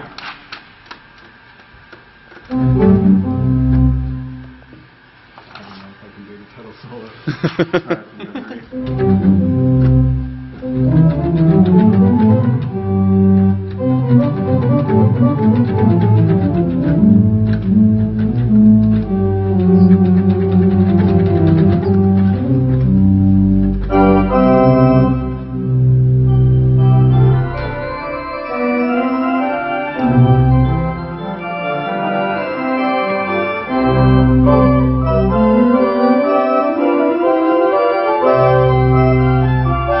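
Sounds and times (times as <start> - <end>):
pipe organ chords: 2.4 - 4.8, 8.6 - 40.0
deep organ pedal bass notes: 2.5 - 4.7, 8.6 - 40.0.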